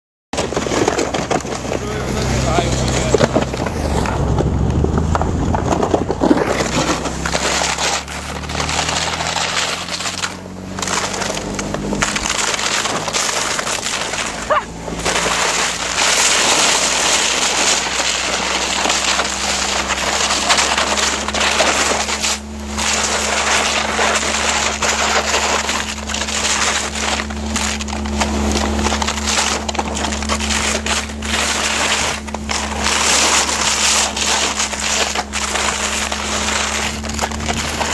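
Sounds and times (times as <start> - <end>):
car engine running: 0.3 - 37.9
sled rushing and scraping on ice: 0.4 - 37.9.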